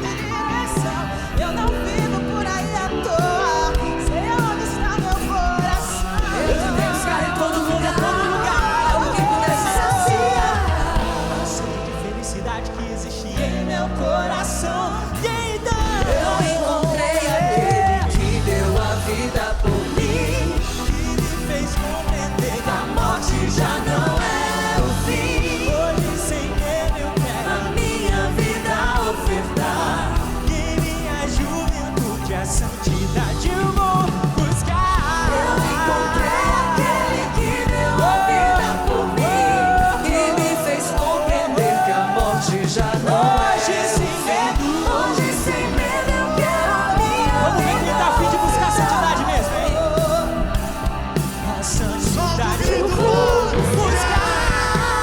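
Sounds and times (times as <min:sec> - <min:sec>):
drums: 0:00.0 - 0:55.0
live band playing worship song: 0:00.0 - 0:55.0
person singing: 0:00.0 - 0:55.0.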